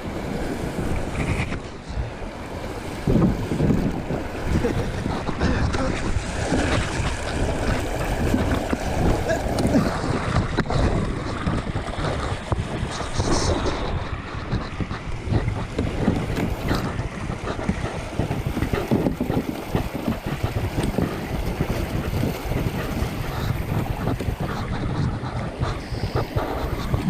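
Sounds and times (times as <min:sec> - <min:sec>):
wind buffeting microphone: 0:00.0 - 0:27.0
crackling scratching rubs: 0:00.7 - 0:02.0, 0:03.1 - 0:27.0.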